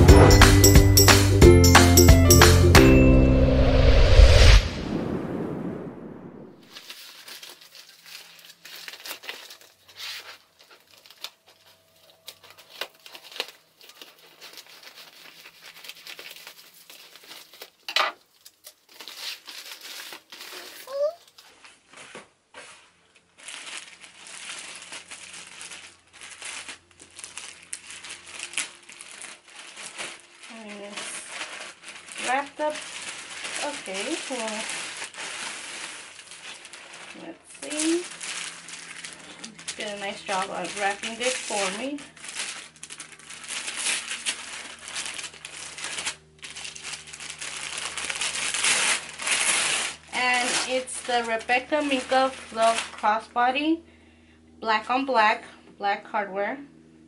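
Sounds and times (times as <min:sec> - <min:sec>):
plastic bag crinkling: 0:06.6 - 0:53.3.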